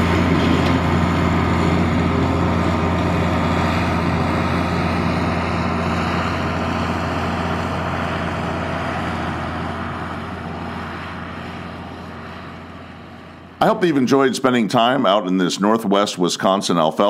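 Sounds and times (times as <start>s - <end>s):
forage harvester whirring: 0.0s - 14.3s
tractor diesel engine under load: 0.0s - 17.0s.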